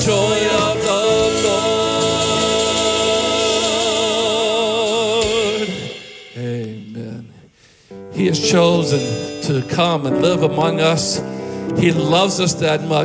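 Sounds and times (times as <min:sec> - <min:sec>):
gospel band chords: 0:00.0 - 0:13.0.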